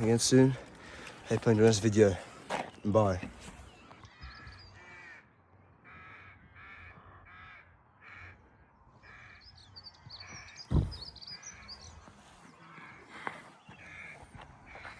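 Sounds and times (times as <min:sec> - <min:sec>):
bird harsh calls: 0:00.0 - 0:14.9.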